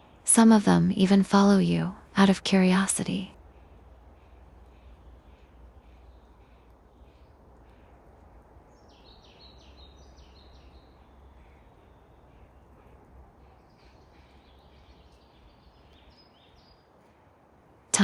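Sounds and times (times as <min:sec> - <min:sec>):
songbird singing: 0:00.0 - 0:17.3
low background rumble: 0:00.0 - 0:18.0.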